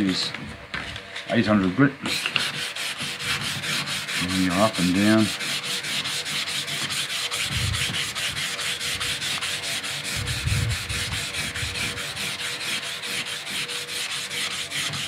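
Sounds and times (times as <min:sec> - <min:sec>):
sandpaper rubbing wet surface: 0:02.1 - 0:15.0.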